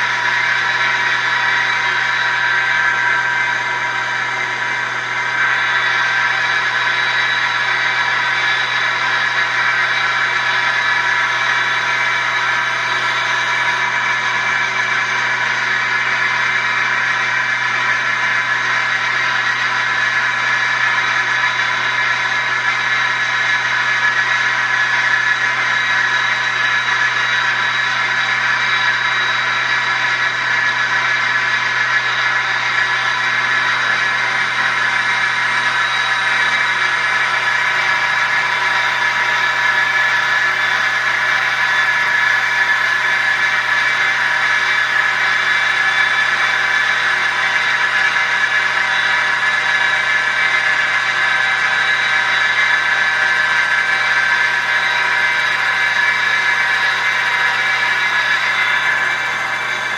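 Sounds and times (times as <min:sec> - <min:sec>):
wood lathe machine whine: 0:00.0 - 0:59.9.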